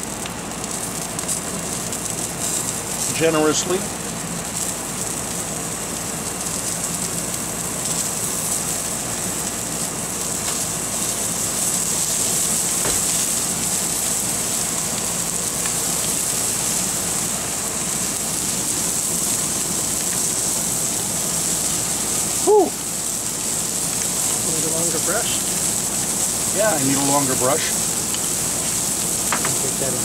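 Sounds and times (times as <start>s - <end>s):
butter sizzling on a hot grill: 0.0s - 30.0s.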